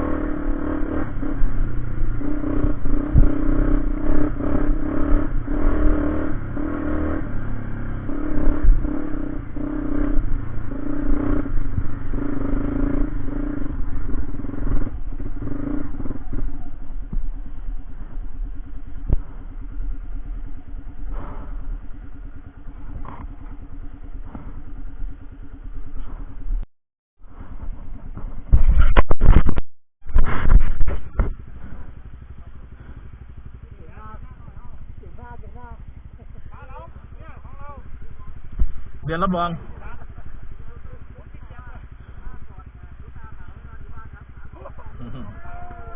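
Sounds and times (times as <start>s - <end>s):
clatter: 0.0s - 26.6s, 27.2s - 45.8s
vehicle engine running: 0.0s - 45.9s.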